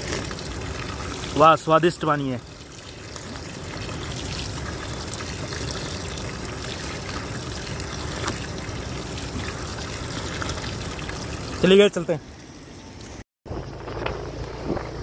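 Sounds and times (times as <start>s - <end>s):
water pouring and splashing on stones: 0.0s - 13.2s.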